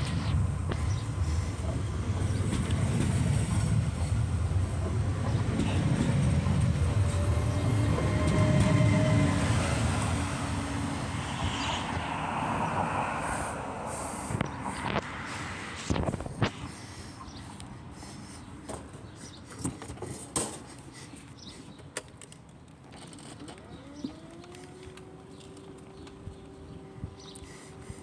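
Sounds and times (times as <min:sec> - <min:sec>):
train passing rumble: 0:00.0 - 0:21.6, 0:23.7 - 0:28.0.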